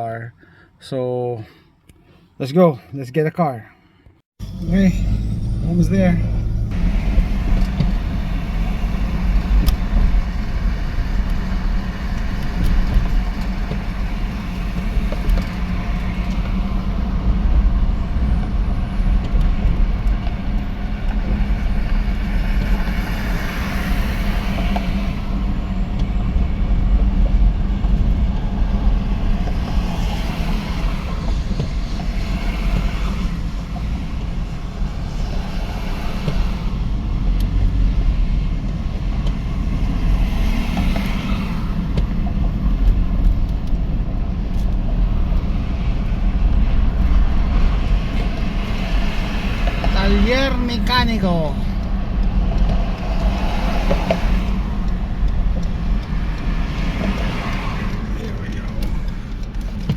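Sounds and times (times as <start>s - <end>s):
car road noise from inside: 4.4s - 59.9s.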